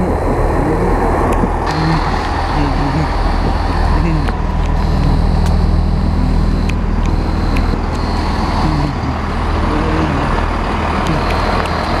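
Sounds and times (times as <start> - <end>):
diesel train engine rumble: 0.0 - 12.0.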